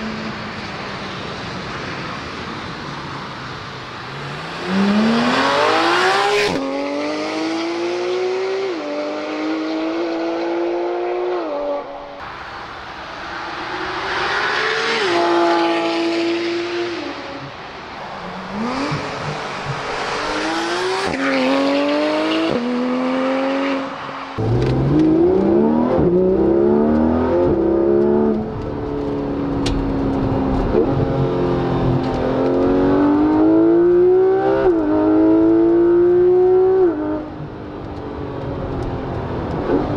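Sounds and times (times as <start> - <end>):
sports car accelerating hard: 4.0 - 12.2, 13.5 - 17.5, 18.3 - 39.9.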